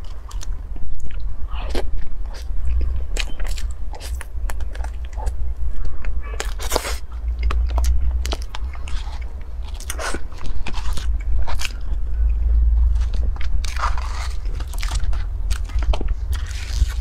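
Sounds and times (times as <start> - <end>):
chewing mouth sounds: 0.0 - 17.0
low hum: 0.0 - 17.0.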